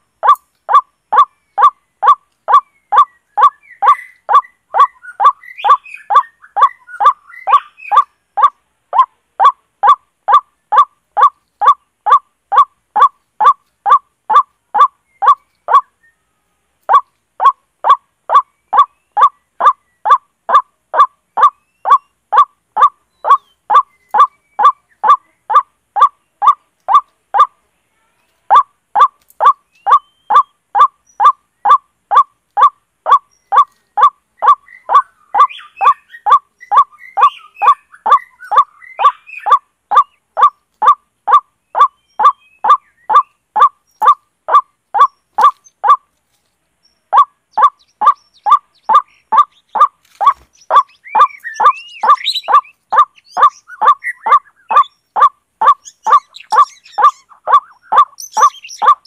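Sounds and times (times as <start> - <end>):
faint bird chirps and twitters: 0.0 - 59.0
repeated loud bird call: 0.0 - 59.0.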